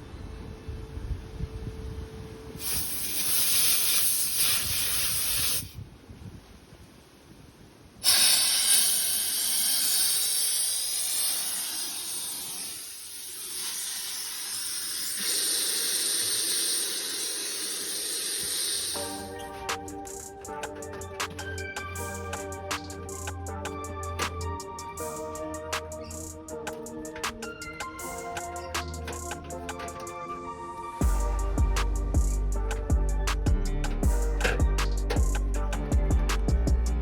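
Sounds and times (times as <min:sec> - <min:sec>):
pressurized gas hissing: 0:02.5 - 0:05.8, 0:08.0 - 0:36.5.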